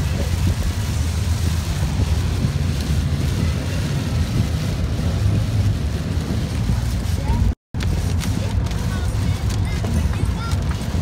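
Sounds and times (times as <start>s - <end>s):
car road noise rumble: 0.0s - 11.0s
hiss of rain and wet tyres: 0.0s - 11.0s.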